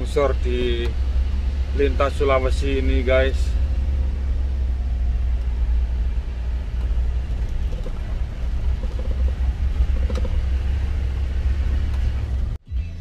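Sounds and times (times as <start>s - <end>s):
vehicle cab rumble on rough road: 0.0s - 13.0s.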